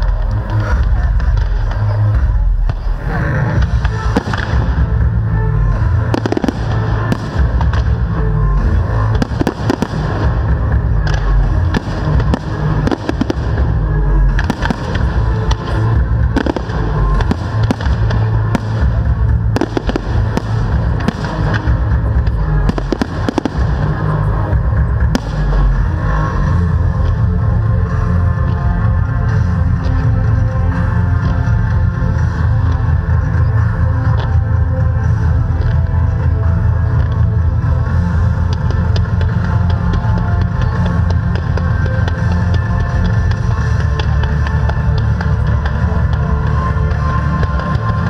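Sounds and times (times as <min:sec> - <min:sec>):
fireworks bangs and crackles: 0:00.0 - 0:48.0
music playing: 0:00.0 - 0:48.0.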